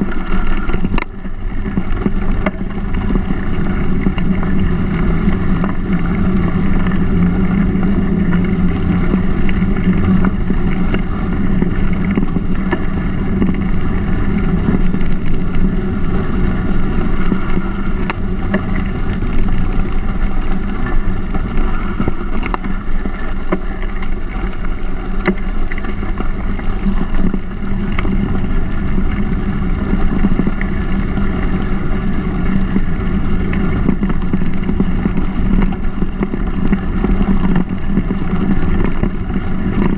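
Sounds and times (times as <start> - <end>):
bike tyres rumbling on gravel: 0.0 - 39.9
small clicks and rattles: 0.0 - 39.9
wind on microphone: 0.0 - 39.9.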